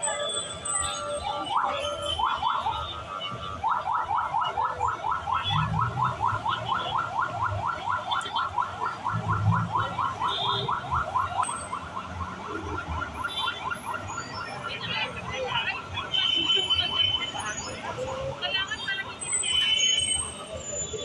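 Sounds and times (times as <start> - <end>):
electronic siren yelping: 0.1 - 19.0.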